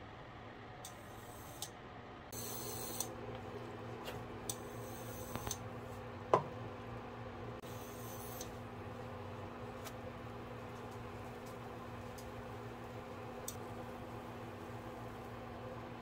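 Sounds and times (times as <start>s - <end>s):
steady electric hum: 0.0s - 16.0s.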